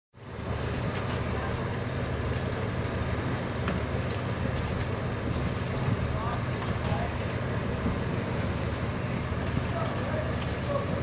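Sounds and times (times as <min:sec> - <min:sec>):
low engine rumble: 0:00.2 - 0:11.0.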